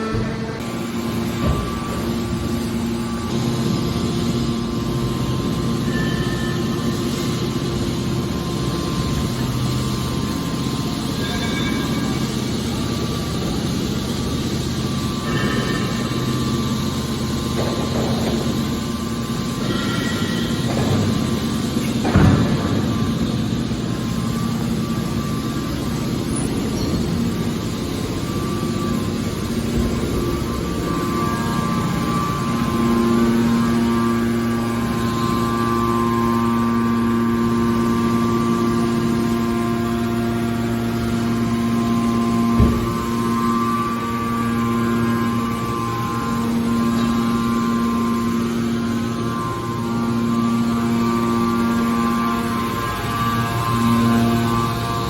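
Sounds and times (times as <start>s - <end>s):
can baler machine hum: 0.0s - 55.0s.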